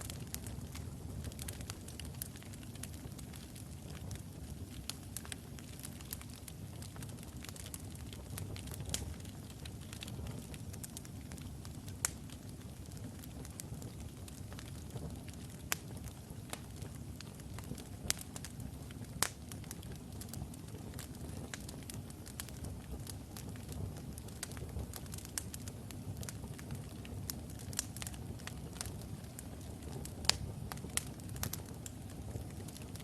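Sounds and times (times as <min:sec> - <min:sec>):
fire crackles and pops: 0:00.0 - 0:33.0
flames rumbling: 0:00.0 - 0:33.0.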